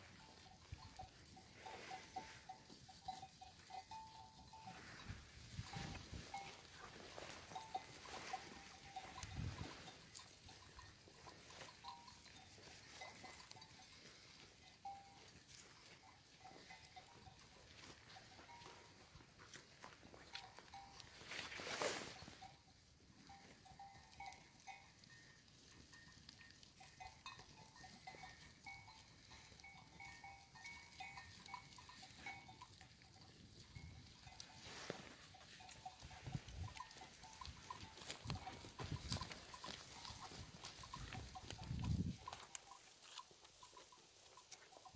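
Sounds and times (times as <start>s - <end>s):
sheep bells clinking: 0.0s - 44.9s.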